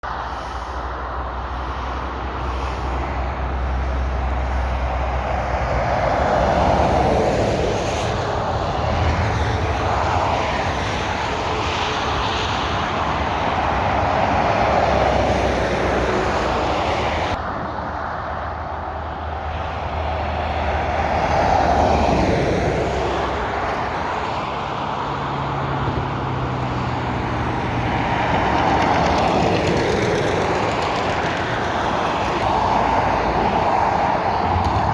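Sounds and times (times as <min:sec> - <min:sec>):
motorway traffic passing: 0:00.0 - 0:34.9.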